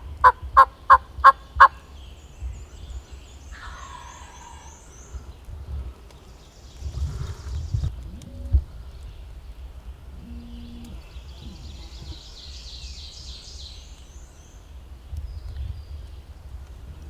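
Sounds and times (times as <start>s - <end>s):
songbird singing: 0.0s - 17.0s
wind rumble on microphone: 0.0s - 17.0s.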